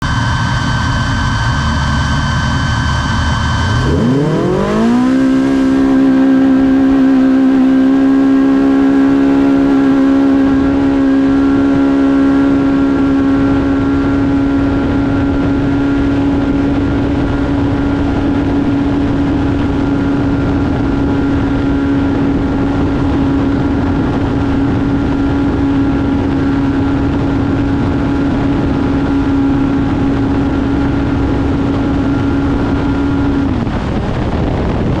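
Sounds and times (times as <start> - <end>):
vehicle engine revving: 0.0 - 35.0
wind noise: 0.0 - 35.0.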